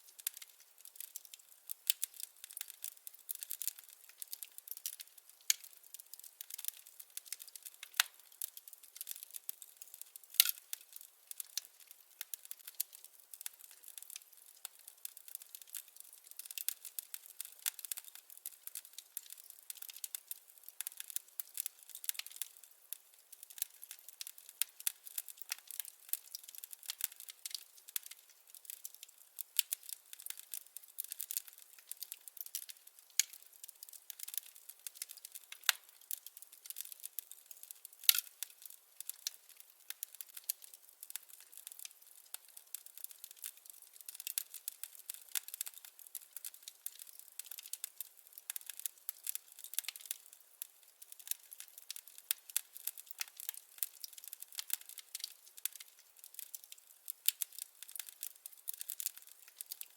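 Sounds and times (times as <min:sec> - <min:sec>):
firewood crackling: 0:00.0 - 0:59.9.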